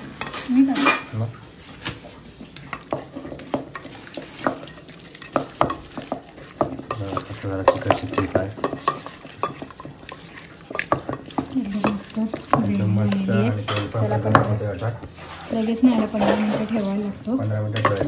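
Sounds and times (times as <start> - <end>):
chicken stirred in marinade: 0.0 - 18.0.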